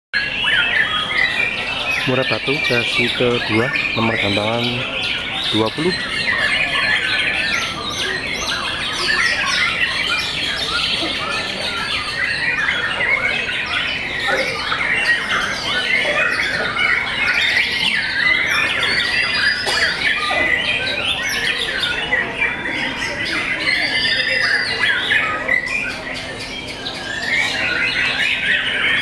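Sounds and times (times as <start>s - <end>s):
birds singing whistled trills: 0.2s - 29.0s.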